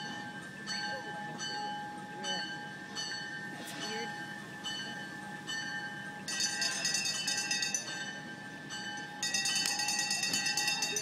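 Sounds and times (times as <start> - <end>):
locomotive bell ringing: 0.0 - 11.0.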